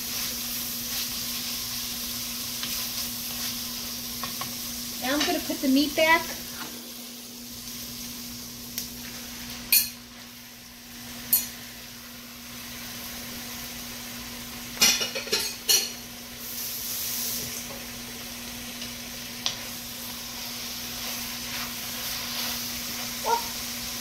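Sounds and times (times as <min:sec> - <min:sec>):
pot sizzling: 0:00.0 - 0:24.0.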